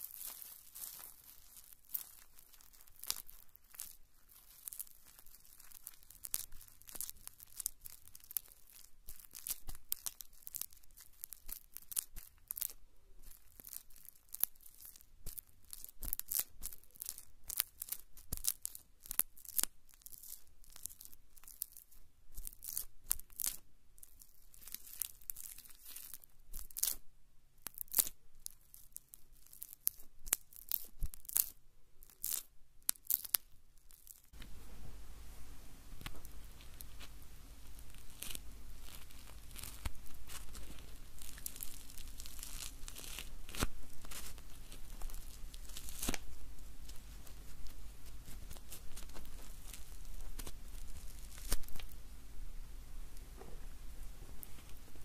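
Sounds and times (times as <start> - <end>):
marshmallows crackling and popping: 0.0 - 34.5, 35.8 - 52.1, 53.0 - 55.0.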